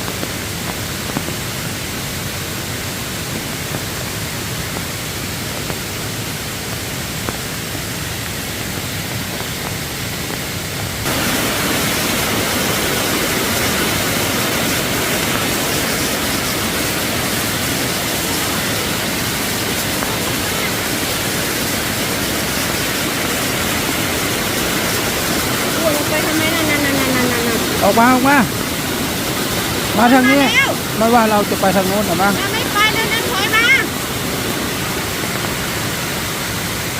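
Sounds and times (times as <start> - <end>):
rushing stream water: 0.0 - 36.9.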